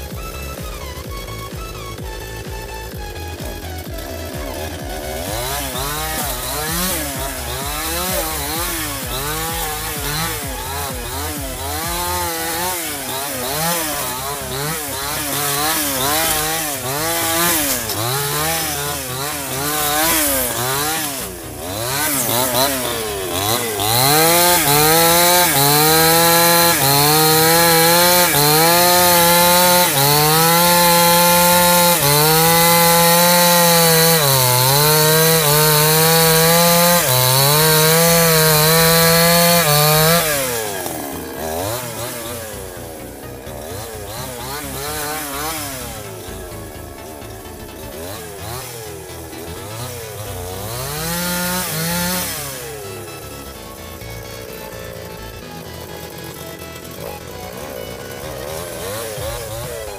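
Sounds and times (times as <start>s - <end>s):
chainsaw cutting branches: 0.0s - 59.9s.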